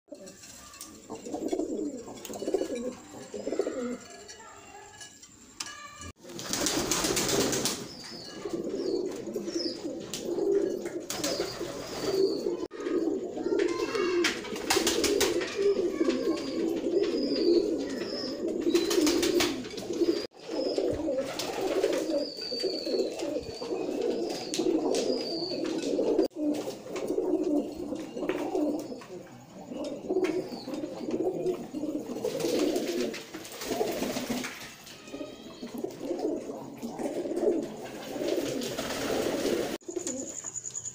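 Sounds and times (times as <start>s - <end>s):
pigeons cooing: 0.1s - 4.4s, 6.2s - 40.6s.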